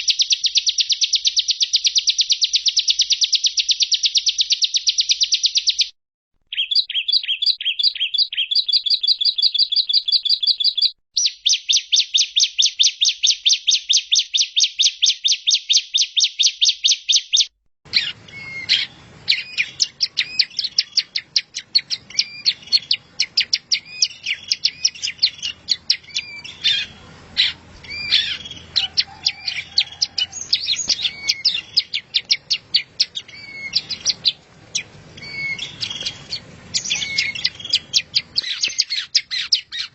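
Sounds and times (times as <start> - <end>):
bird chirps and trills: 0.0 - 5.9, 6.5 - 39.9
fast bird trills: 6.5 - 39.9.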